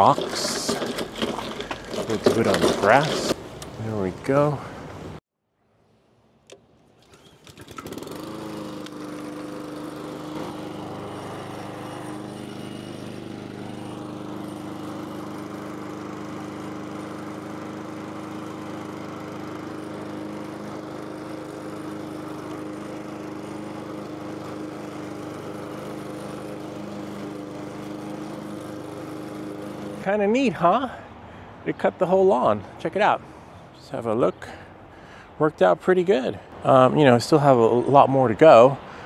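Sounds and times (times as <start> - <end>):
lawn mower engine running: 0.0 - 5.2, 7.0 - 33.6, 34.2 - 39.0.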